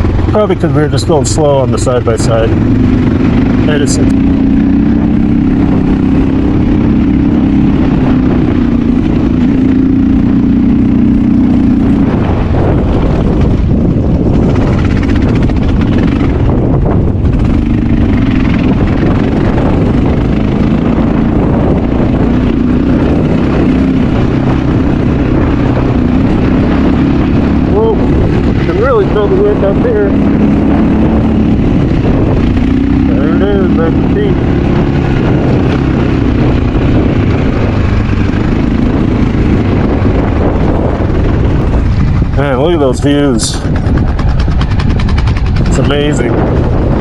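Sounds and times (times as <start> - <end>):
motorcycle engine running: 0.0 - 47.0
wind buffeting microphone: 0.0 - 47.0.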